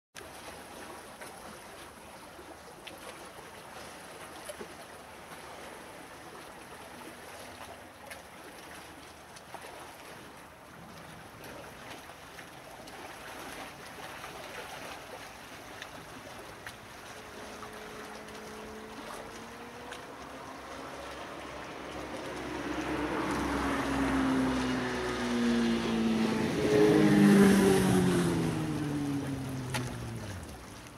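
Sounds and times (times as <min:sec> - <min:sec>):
lake water lapping: 0:00.2 - 0:30.9
engine hum with gliding pitch: 0:01.9 - 0:30.9.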